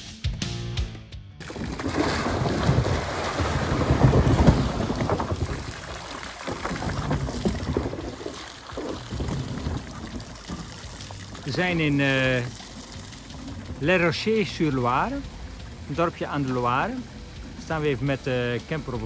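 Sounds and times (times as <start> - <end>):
fountain water splashing: 1.4 - 19.0
wind rumbling on microphone: 1.4 - 19.0.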